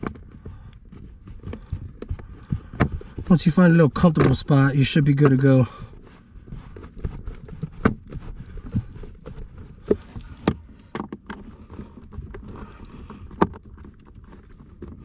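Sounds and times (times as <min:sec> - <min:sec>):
plastic and metal parts handled: 0:00.0 - 0:15.0.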